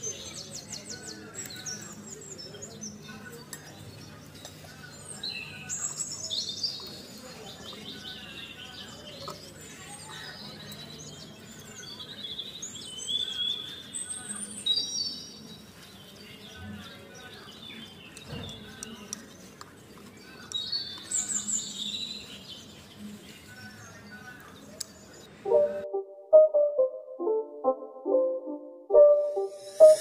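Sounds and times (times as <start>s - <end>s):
small birds chirping and trilling: 0.0s - 25.4s.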